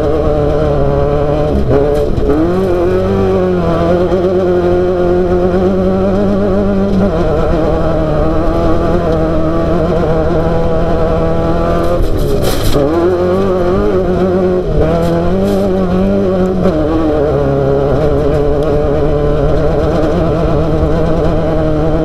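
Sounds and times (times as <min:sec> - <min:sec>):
race buggy engine running hard: 0:00.0 - 0:22.0.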